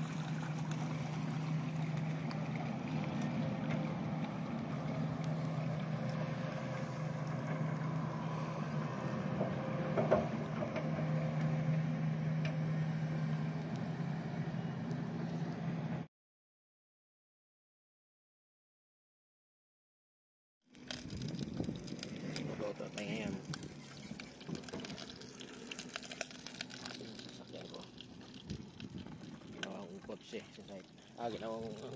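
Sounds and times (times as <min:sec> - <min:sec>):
engine running steadily: 0:00.0 - 0:16.1, 0:20.8 - 0:31.9.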